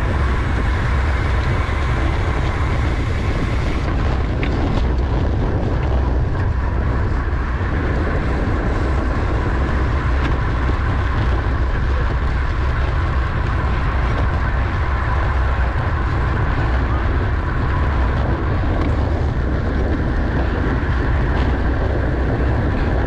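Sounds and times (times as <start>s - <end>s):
faint steady whine: 0.0s - 23.0s
tyre and drivetrain noise: 0.0s - 23.0s
wind rushing over microphone: 0.0s - 23.0s.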